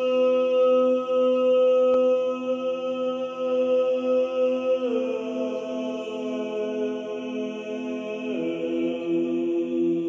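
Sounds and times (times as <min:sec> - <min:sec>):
person chanting: 0:00.0 - 0:10.0.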